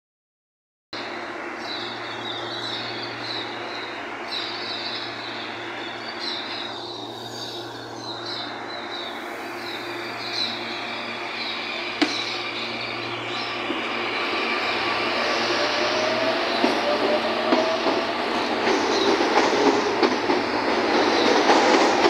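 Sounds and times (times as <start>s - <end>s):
electric train humming: 1.0s - 22.0s
birds chirping: 1.6s - 22.0s.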